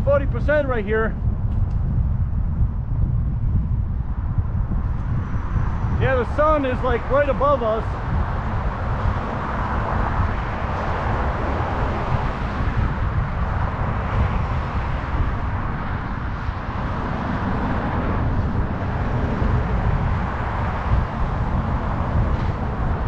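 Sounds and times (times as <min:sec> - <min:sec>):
road traffic passing: 0:00.0 - 0:23.0
wind buffeting microphone: 0:00.0 - 0:23.0.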